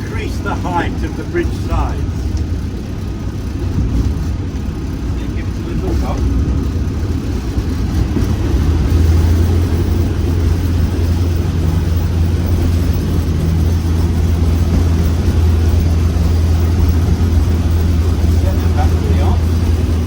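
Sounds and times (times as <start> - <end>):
diesel locomotive engine drone: 0.0 - 20.0.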